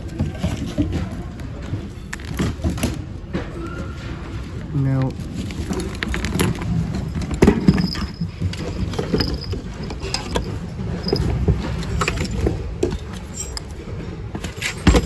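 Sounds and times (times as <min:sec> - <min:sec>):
objects knocking and clattering: 0:00.0 - 0:15.0.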